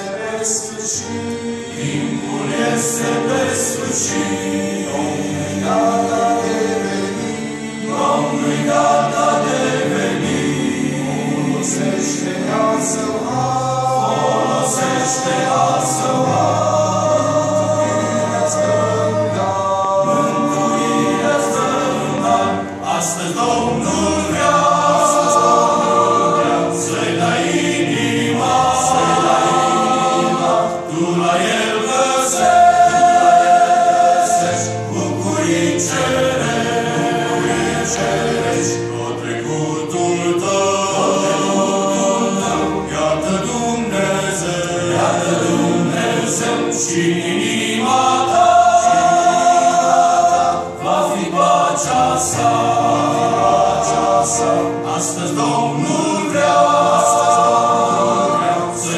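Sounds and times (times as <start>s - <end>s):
choir singing a hymn: 0.0s - 58.9s
keyboard accompaniment: 0.0s - 58.9s.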